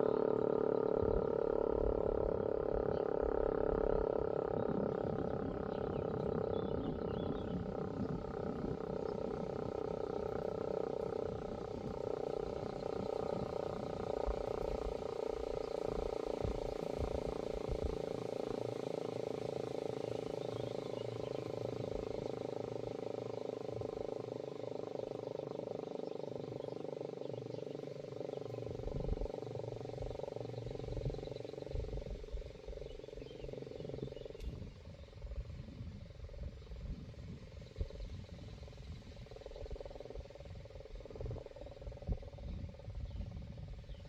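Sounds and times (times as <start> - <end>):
electric motor siren: 0.0 - 37.2.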